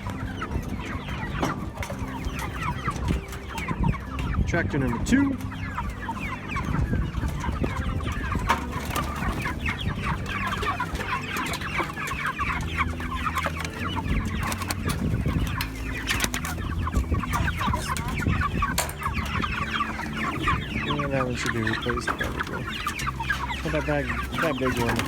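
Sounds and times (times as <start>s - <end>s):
chickens peeping and clucking: 0.0s - 25.0s.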